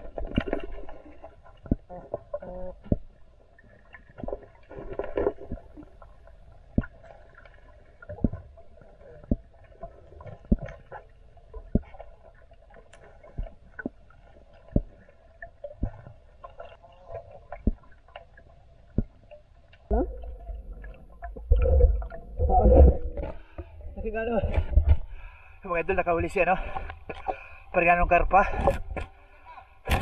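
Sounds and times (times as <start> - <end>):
muffled gurgling water underwater: 0.0 - 30.0.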